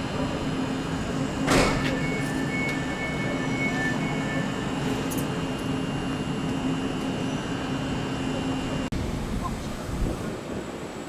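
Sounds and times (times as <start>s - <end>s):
thin high whine: 0.0s - 9.7s
train mechanical hum: 0.0s - 11.0s.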